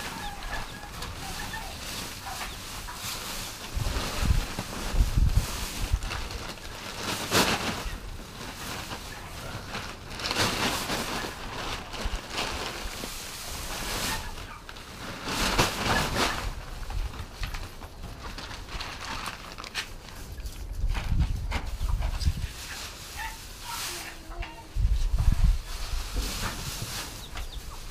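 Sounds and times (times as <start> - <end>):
grass being stuffed into feeder: 0.0 - 27.9
plastic sack rustling: 0.0 - 27.9.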